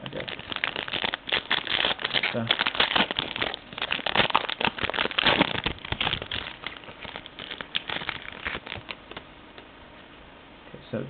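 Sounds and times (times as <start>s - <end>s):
plastic wrapper crinkling: 0.0s - 9.3s.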